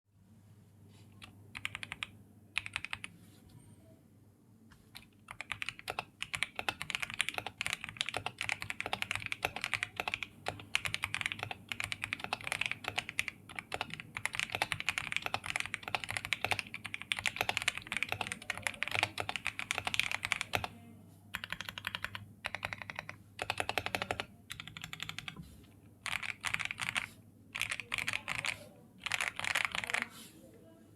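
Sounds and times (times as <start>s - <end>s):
mechanical keyboard typing: 1.2s - 3.1s, 4.8s - 20.7s, 21.3s - 25.4s, 26.0s - 30.2s.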